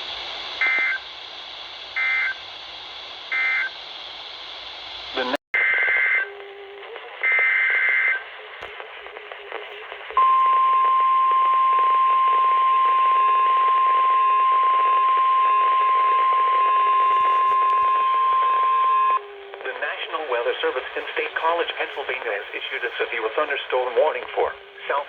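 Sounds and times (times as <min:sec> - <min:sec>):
radio hiss: 0:00.0 - 0:25.0.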